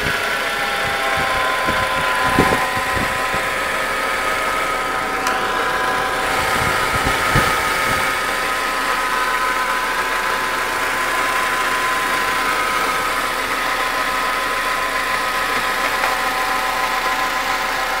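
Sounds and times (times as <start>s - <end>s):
car engine idling with hum: 0.0s - 18.0s.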